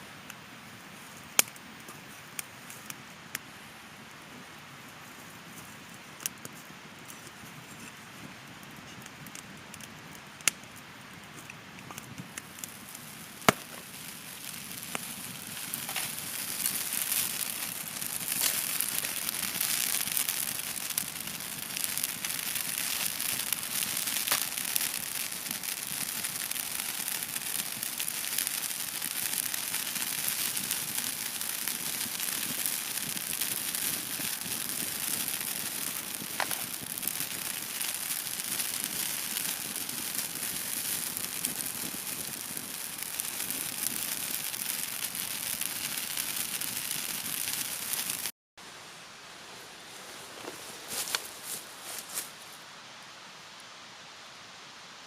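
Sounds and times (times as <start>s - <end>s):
campfire crackling: 0.0s - 55.0s
fire popping: 0.6s - 3.6s, 5.0s - 48.3s.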